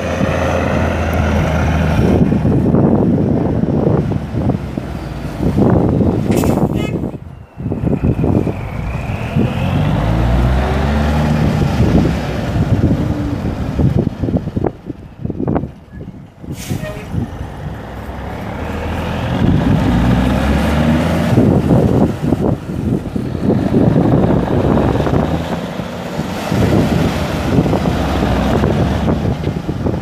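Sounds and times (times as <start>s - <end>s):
diesel truck engine running: 0.0s - 30.0s
wind buffeting microphone: 0.0s - 30.0s.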